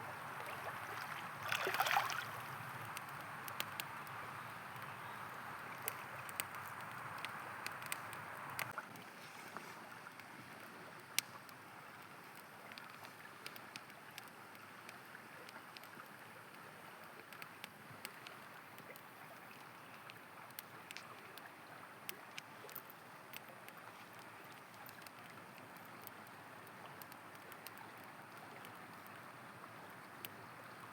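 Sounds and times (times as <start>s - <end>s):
campfire crackling and popping: 0.0s - 9.1s, 9.8s - 30.9s
flowing river: 0.0s - 30.9s.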